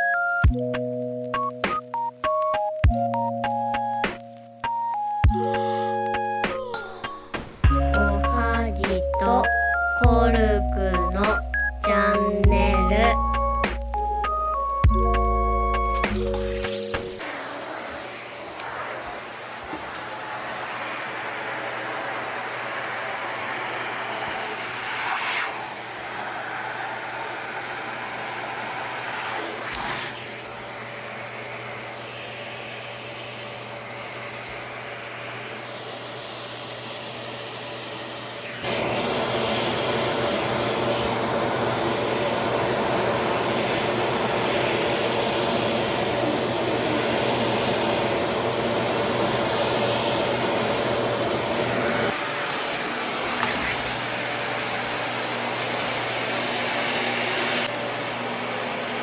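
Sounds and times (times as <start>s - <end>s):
vacuum cleaner whirring: 4.7s - 59.0s.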